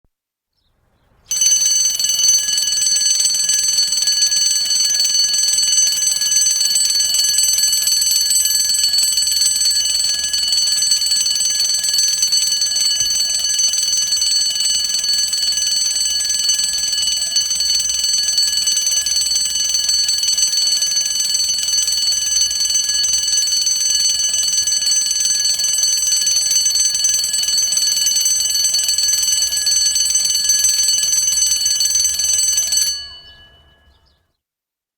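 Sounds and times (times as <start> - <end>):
bell alarm clock ringing: 1.3 - 34.2.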